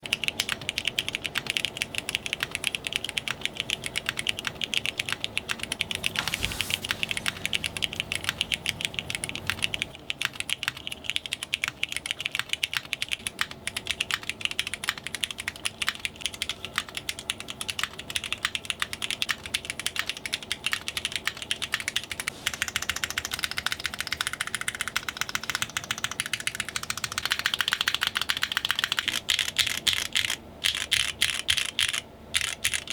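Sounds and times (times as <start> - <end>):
typing on mechanical keyboard: 0.0 - 32.9.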